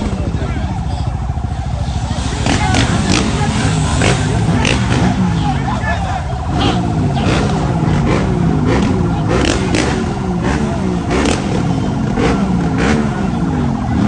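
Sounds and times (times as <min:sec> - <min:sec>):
crowd noise: 0:00.0 - 0:14.0
motorbike engines revving: 0:00.0 - 0:14.0.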